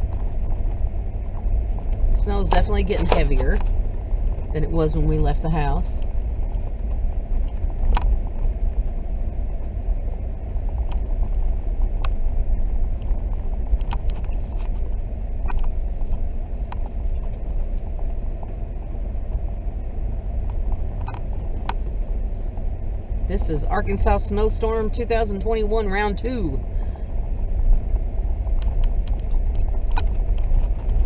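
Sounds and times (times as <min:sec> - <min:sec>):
car tyres and engine rumble: 0:00.0 - 0:31.0.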